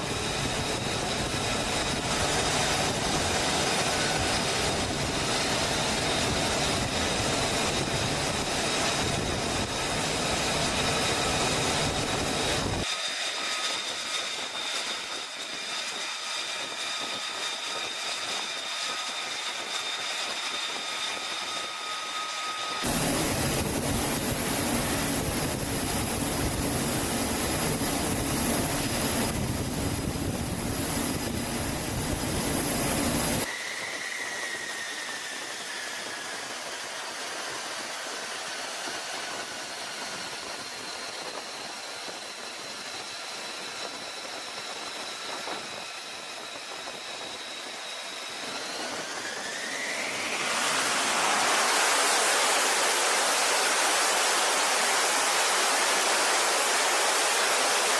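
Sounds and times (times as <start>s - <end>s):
jet engine turbine whine: 0.0s - 57.9s.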